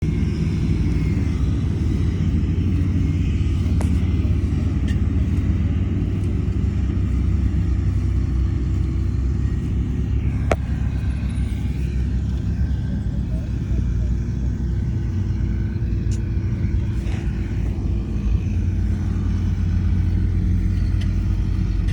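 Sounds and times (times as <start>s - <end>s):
bulldozer diesel engine rumbling: 0.0s - 21.9s.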